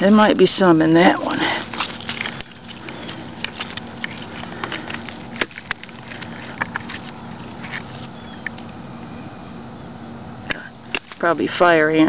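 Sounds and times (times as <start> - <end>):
dry grass and bark rustling: 0.0 - 9.9, 10.6 - 12.0.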